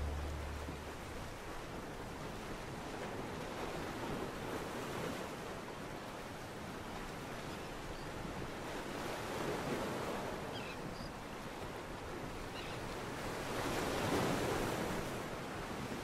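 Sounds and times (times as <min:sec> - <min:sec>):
lake waves: 0:00.0 - 0:16.0.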